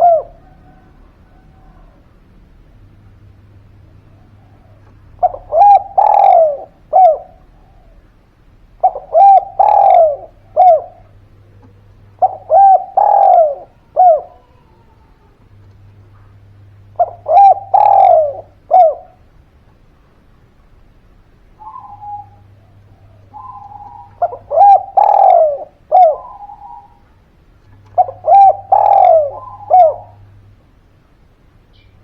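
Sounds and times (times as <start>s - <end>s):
dove cooing: 0.0s - 2.9s, 3.6s - 19.4s, 21.6s - 30.6s.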